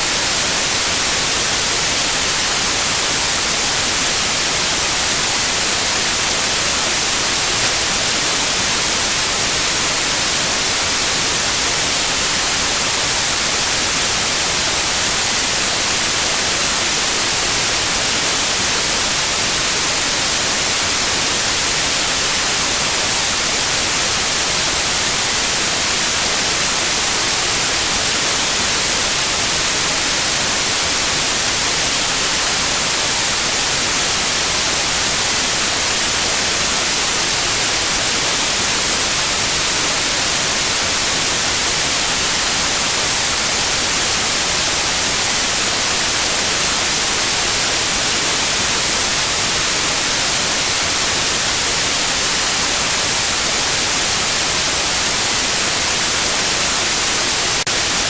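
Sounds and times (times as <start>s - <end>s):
high-pitched pure tone: 0.0s - 58.0s
white noise hiss: 0.0s - 58.0s.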